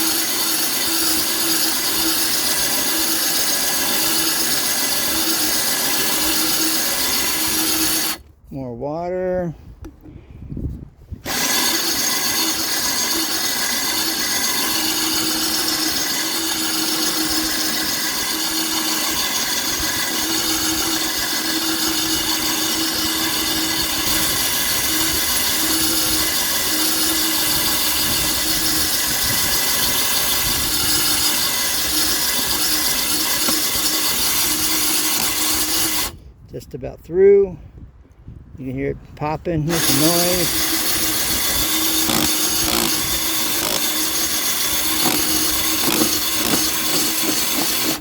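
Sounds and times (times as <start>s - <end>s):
coring bit grinding tile: 0.0s - 8.3s, 11.2s - 36.2s, 39.6s - 48.0s
drill motor hum: 0.0s - 8.3s, 11.2s - 36.2s, 39.7s - 48.0s.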